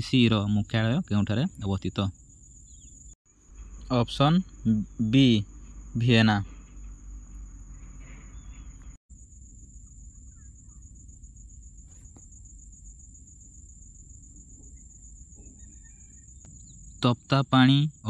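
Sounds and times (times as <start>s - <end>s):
low hum: 2.3s - 17.1s.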